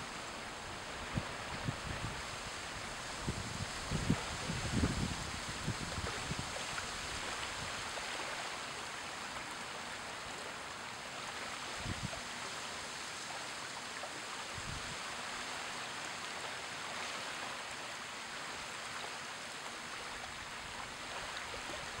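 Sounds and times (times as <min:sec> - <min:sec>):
small waves lapping on sand: 0:00.0 - 0:22.0.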